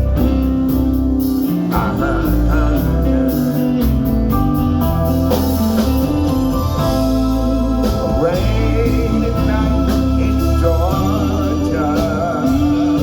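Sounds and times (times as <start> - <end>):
bass and guitar long notes: 0.0 - 13.0
steady cymbal beat: 0.0 - 13.0.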